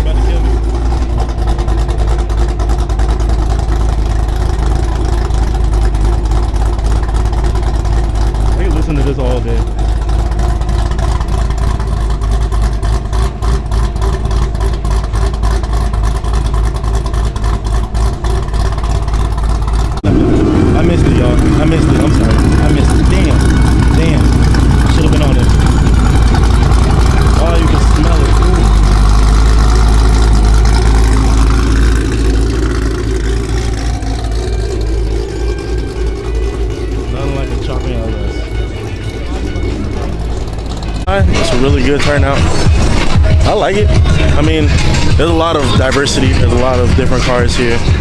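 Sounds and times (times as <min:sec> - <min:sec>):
car engine and exhaust running: 0:00.0 - 0:48.0.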